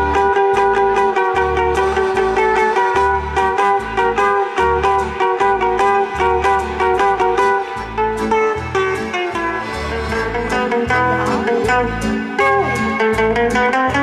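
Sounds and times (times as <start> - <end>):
guitar picking fast notes: 0.0 - 14.0
steady bass line: 0.0 - 14.0.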